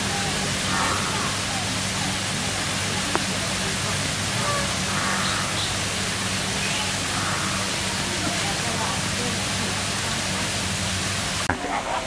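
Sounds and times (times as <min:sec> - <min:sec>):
rain falling on a pond: 0:00.0 - 0:12.0.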